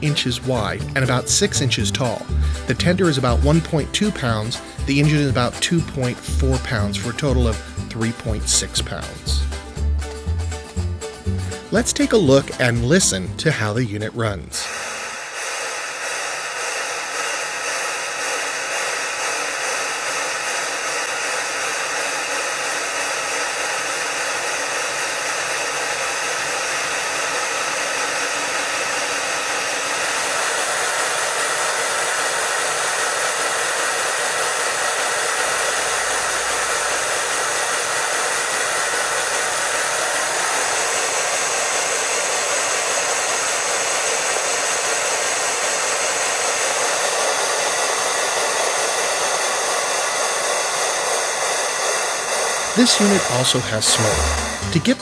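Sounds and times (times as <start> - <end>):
model locomotive steam sound: 0.0 - 9.7, 10.7 - 55.0.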